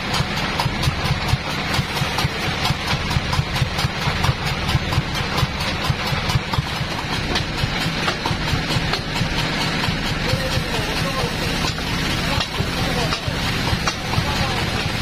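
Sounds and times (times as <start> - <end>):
sawmill engine idling: 0.0 - 15.0.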